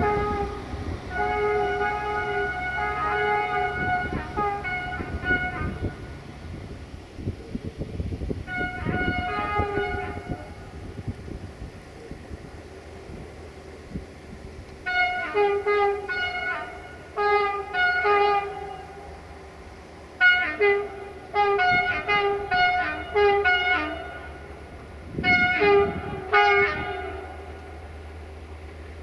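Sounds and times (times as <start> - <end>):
locomotive horn blasts: 0.0 - 6.7, 8.4 - 11.5, 14.7 - 28.4.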